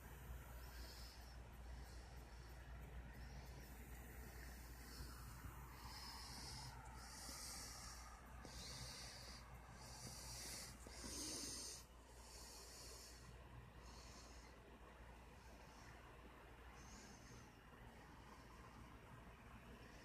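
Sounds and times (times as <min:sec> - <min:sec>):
faint low hum: 0:00.0 - 0:20.0
soft hissing breaths: 0:00.0 - 0:20.0.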